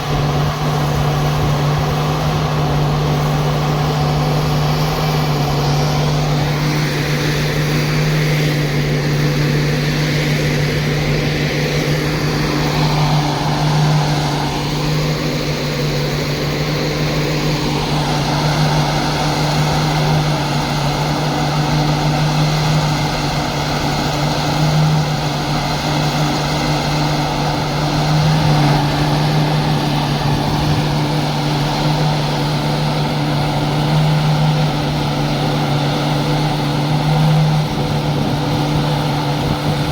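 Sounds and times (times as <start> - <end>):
diesel generator humming: 0.0 - 39.9.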